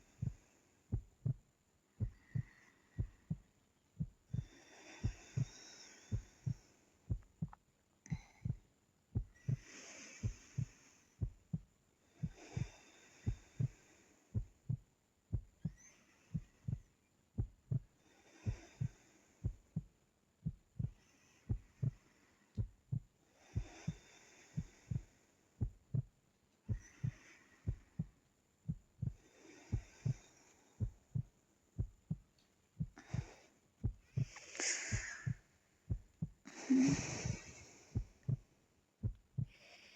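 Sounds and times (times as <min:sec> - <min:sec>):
soft hissy breathing: 0:00.0 - 0:14.8, 0:15.6 - 0:32.2, 0:32.8 - 0:39.9
low heartbeat-like thumps: 0:00.0 - 0:24.0, 0:24.6 - 0:39.6.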